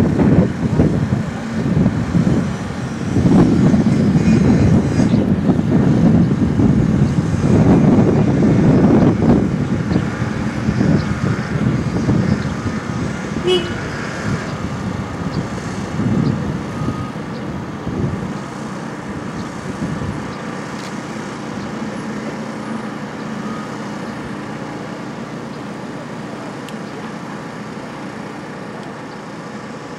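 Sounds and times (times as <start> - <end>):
wind rumble: 0.0 - 24.4
distant road traffic: 0.0 - 29.9.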